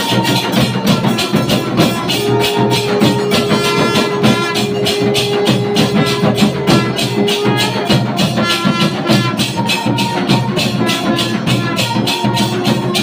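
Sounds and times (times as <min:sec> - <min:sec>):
music with shaker percussion: 0:00.0 - 0:13.0.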